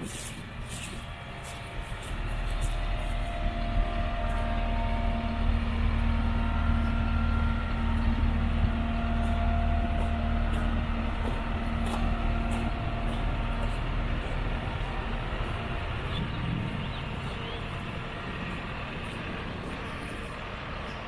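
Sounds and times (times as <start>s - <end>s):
excavator diesel engine droning: 0.0s - 21.0s.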